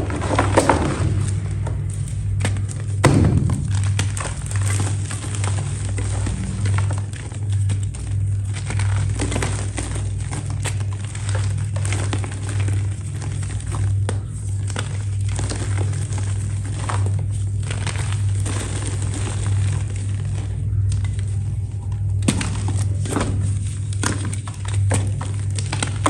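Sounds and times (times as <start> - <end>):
crumbly material crunching and snapping: 0.0 - 26.0
steady low hum: 0.0 - 26.0.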